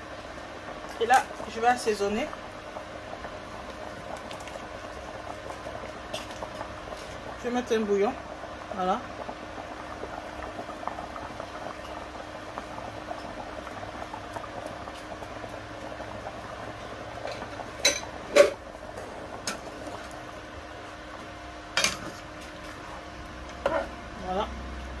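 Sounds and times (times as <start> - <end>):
soup simmering and bubbling: 0.0 - 25.0.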